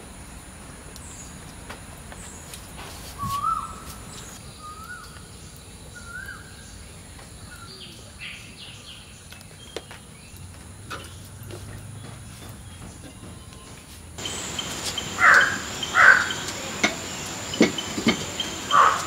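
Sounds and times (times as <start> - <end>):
steady high hiss: 0.0 - 11.0, 13.6 - 19.0
birds chirping: 0.0 - 19.0.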